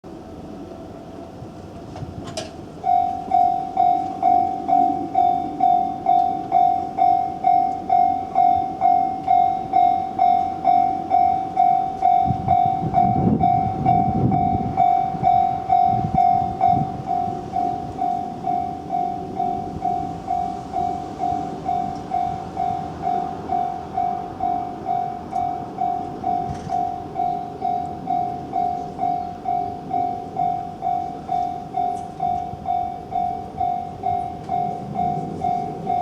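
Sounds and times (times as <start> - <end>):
level crossing warning bell: 2.4 - 36.0.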